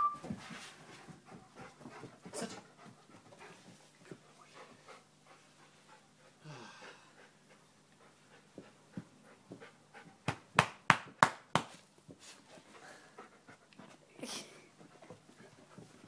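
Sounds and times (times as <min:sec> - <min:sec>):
dog panting: 0:00.5 - 0:10.3, 0:12.5 - 0:16.0.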